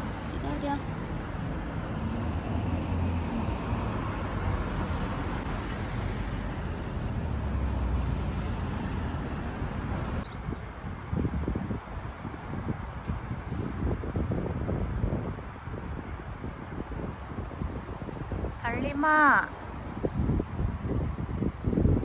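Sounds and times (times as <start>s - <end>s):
road traffic: 0.0s - 22.0s
vehicles passing rumble: 0.0s - 22.0s
wind buffeting microphone: 0.0s - 22.0s.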